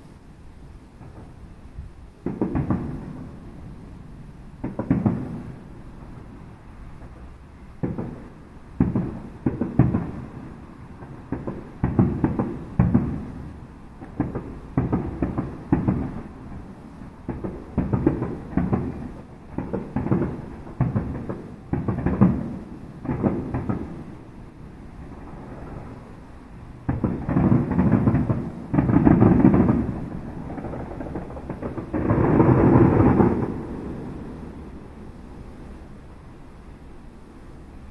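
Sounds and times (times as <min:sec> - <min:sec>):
rapid firework volleys: 0:00.0 - 0:37.9
fireworks booming: 0:00.9 - 0:36.0.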